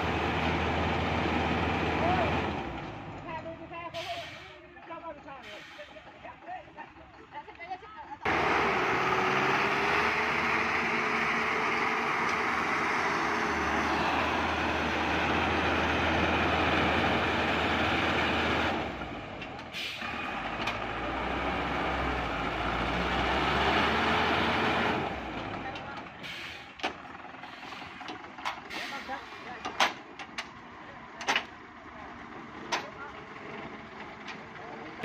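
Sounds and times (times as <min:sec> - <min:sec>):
truck engine running hard: 0:00.0 - 0:07.3, 0:08.2 - 0:35.0.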